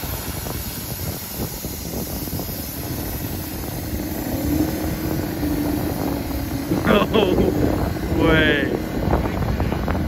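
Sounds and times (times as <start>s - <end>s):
outboard motor running: 0.0s - 10.0s
rough low rumble: 1.2s - 10.0s.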